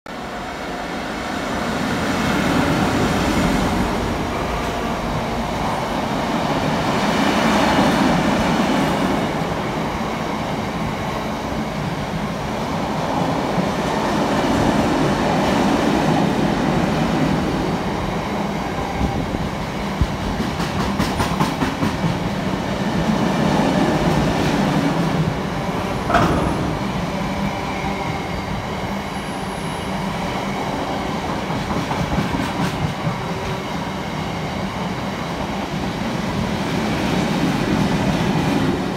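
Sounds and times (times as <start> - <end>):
diesel locomotive passing: 0.1 - 38.9
freight train rumbling past: 0.1 - 38.9.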